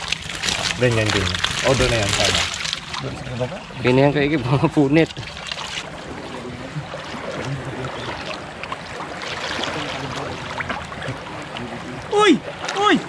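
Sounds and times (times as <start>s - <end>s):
water sloshing around people wading: 0.0s - 13.0s.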